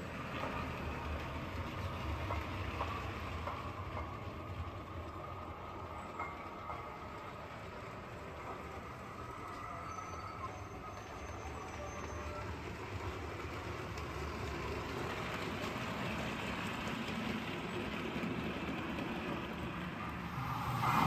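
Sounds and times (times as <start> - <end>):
model locomotive running on track: 0.0 - 21.0.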